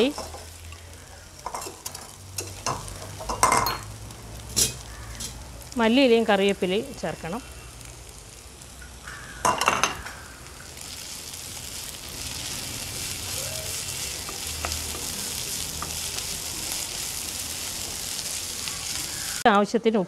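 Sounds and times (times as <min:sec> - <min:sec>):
onions sizzling in hot oil: 0:00.0 - 0:19.4.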